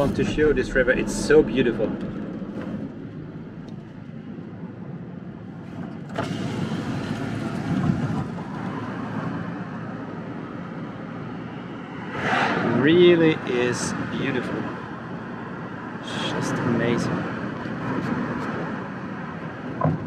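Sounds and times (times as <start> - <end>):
road and engine noise in van: 0.0 - 20.0.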